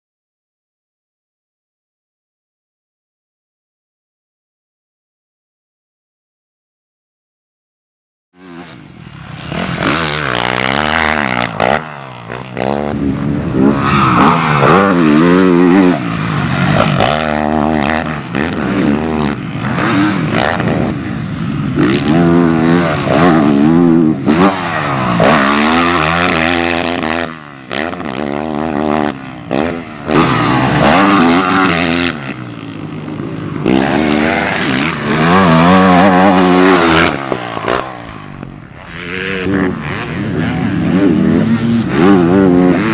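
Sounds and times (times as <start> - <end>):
motocross bike revving: 8.4 - 42.9.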